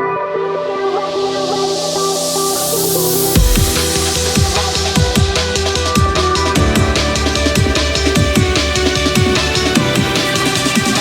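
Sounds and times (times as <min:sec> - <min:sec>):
drum and bass dance music: 0:00.2 - 0:11.0.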